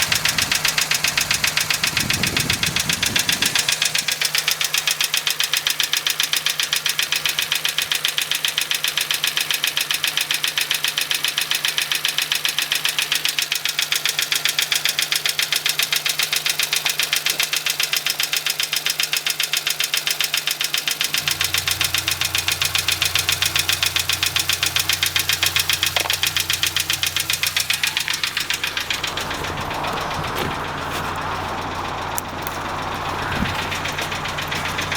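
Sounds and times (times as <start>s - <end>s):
car engine idling with knock: 0.0s - 34.9s.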